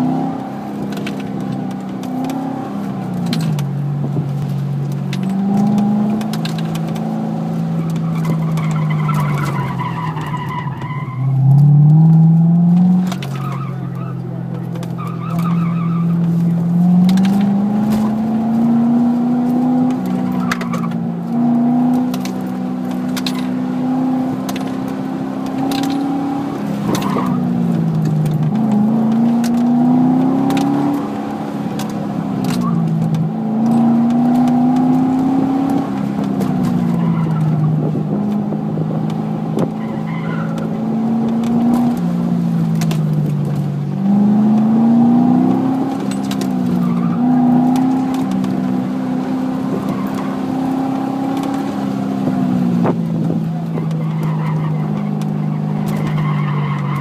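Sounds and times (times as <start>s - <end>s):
car engine revving from cabin: 5.0s - 8.4s, 11.2s - 56.2s.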